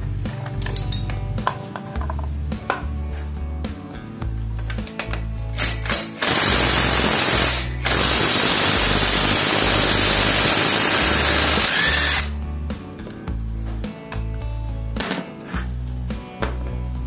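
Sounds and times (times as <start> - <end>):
background music with bass: 0.0 - 17.0.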